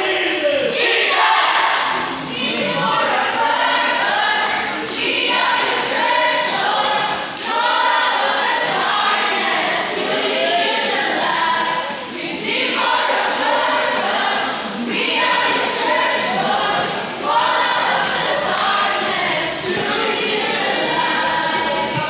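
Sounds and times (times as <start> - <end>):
group singing cheer song: 0.0 - 22.0.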